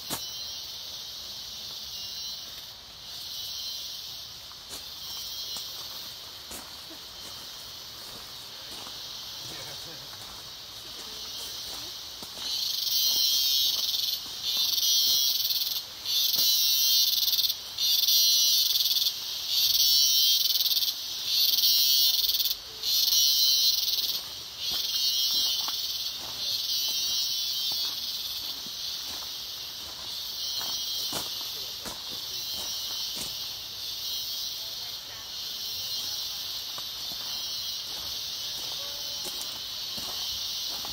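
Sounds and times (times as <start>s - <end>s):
insects buzzing in pulses: 0.0s - 40.9s.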